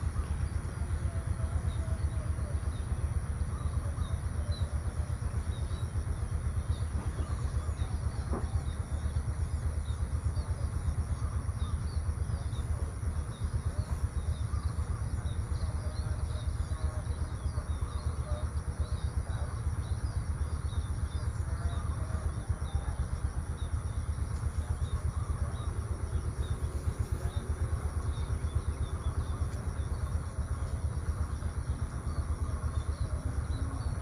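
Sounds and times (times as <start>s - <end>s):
fluttering low rumble: 0.0s - 34.0s
small birds chirping: 0.0s - 34.0s.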